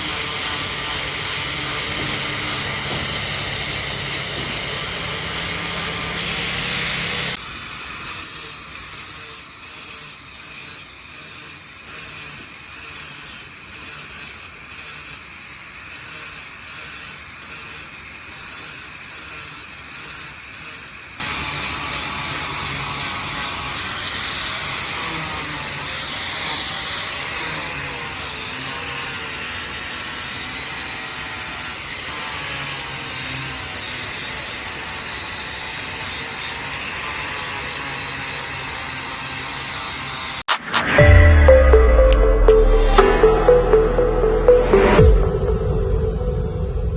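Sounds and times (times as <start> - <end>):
power tool grinding metal: 0.0 - 7.4, 8.0 - 15.2, 15.9 - 40.4.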